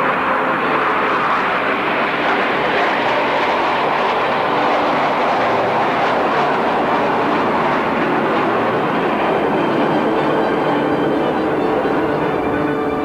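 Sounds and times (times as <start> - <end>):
jet aircraft roar overhead: 0.0 - 13.0.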